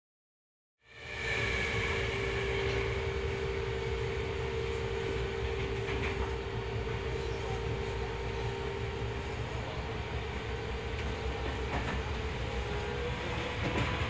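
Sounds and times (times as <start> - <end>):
train wheels rumbling on rails: 1.0 - 14.0.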